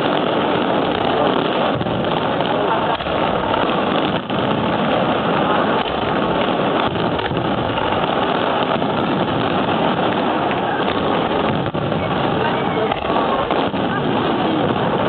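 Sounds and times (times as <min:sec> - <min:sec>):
fireworks crackle and rumble: 0:00.0 - 0:15.0
sharp firework reports: 0:00.0 - 0:15.0.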